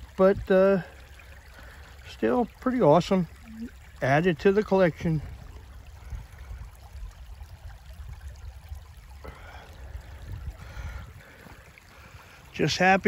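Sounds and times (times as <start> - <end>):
water trickling over stones: 0.0 - 13.0.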